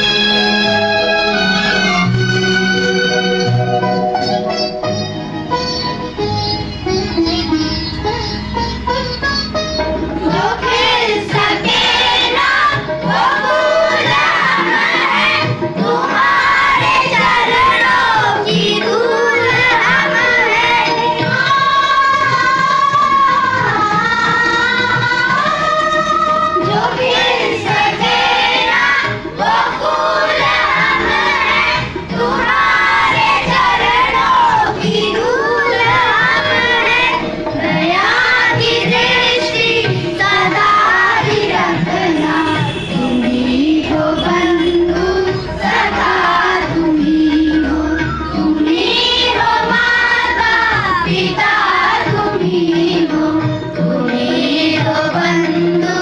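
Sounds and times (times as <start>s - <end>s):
children singing in unison: 0.0s - 3.5s, 10.0s - 56.0s.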